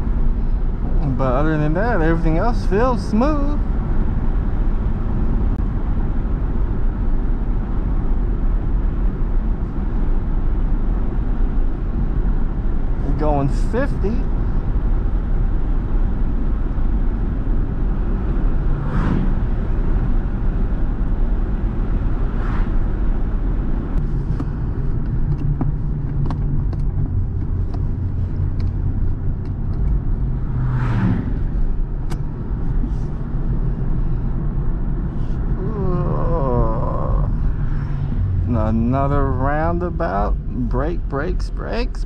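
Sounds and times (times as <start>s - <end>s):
car engine drone: 0.0s - 42.0s
road and tyre noise: 0.0s - 42.0s.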